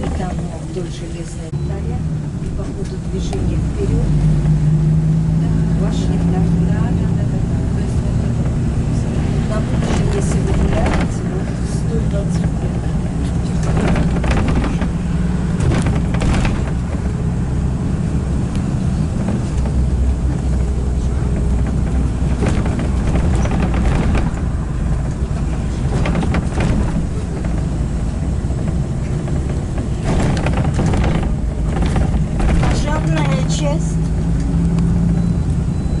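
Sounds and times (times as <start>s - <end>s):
road vehicle rumbling: 0.0s - 36.0s.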